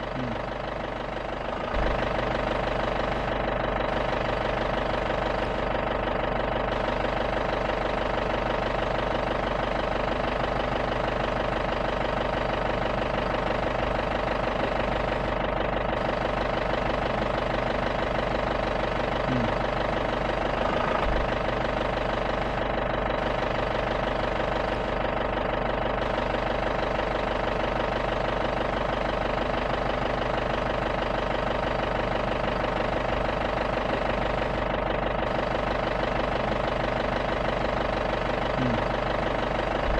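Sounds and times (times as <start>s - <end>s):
jeep engine running: 0.0s - 39.9s.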